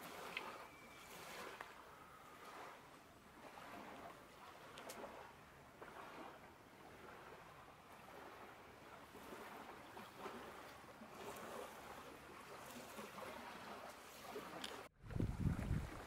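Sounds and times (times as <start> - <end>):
waves lapping at shore: 0.0 - 16.0.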